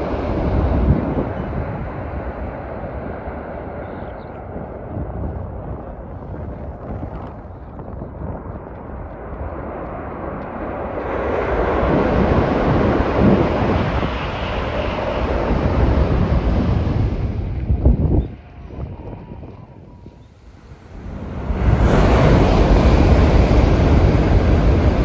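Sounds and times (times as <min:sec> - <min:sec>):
high-speed train rushing past: 0:00.0 - 0:25.0
wind buffeting microphone: 0:00.0 - 0:25.0.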